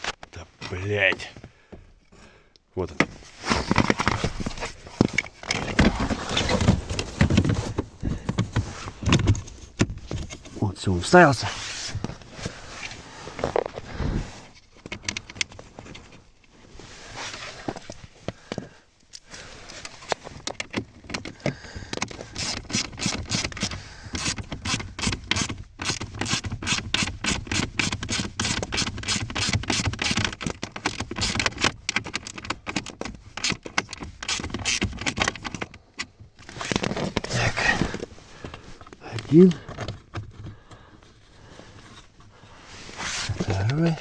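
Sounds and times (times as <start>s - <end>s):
plastic parts clicking and scraping: 2.8s - 44.0s.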